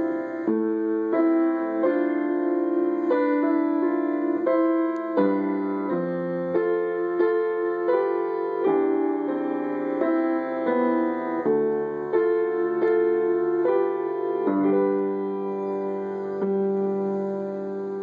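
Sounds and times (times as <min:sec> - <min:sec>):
solo piano melody: 0:00.0 - 0:18.0.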